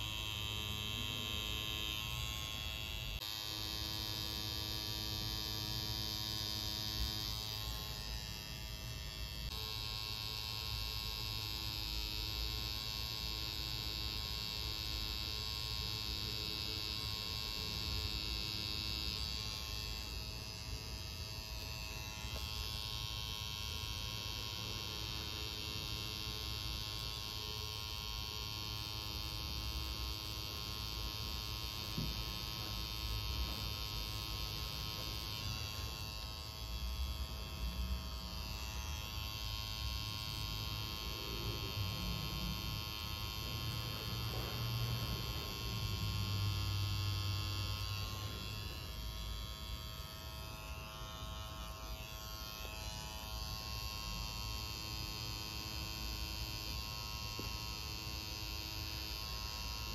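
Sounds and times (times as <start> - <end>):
tattoo machine buzzing: 0.0 - 59.9.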